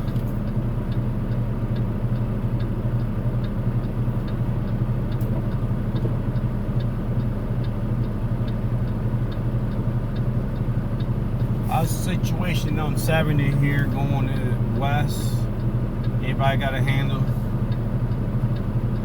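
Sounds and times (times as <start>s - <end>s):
diesel truck engine droning: 0.0s - 19.0s
light ticking: 0.1s - 19.0s.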